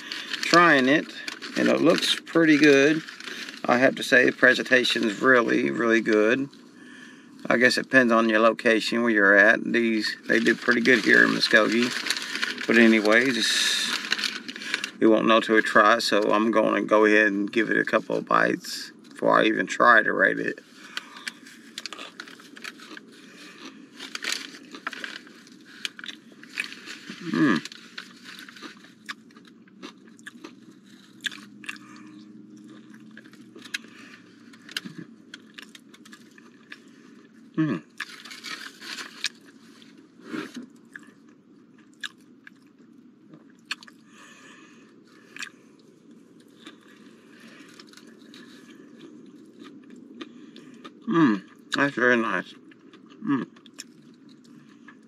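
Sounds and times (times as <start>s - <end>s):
wet chewing and crunching: 0.0s - 55.0s.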